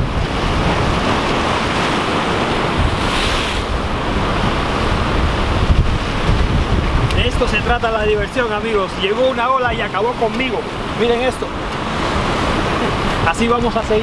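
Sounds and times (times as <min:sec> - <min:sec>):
surf crashing on rocks: 0:00.0 - 0:14.0
wind buffeting microphone: 0:00.0 - 0:14.0.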